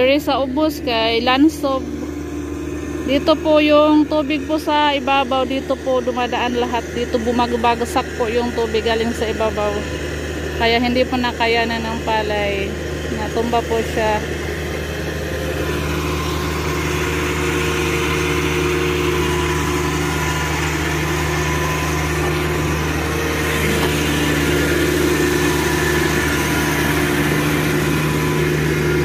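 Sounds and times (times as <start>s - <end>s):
harvester engine droning: 0.0s - 29.0s.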